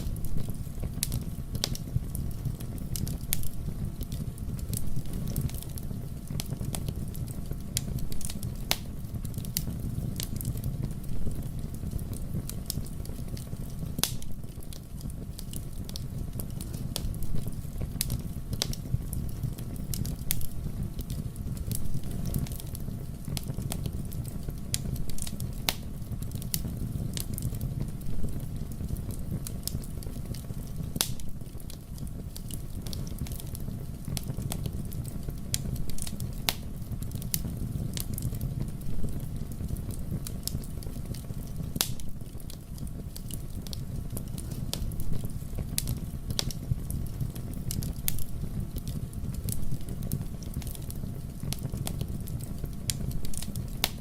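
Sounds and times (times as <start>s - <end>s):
wood fire burning: 0.0s - 54.0s.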